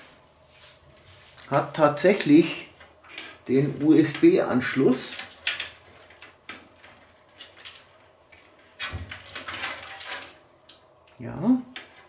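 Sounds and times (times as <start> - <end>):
cables rustling: 0.0 - 12.0.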